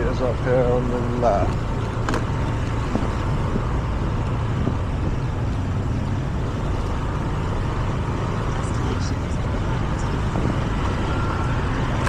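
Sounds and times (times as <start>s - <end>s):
road and wind noise: 0.0s - 12.0s
scooter engine hum: 0.0s - 12.0s.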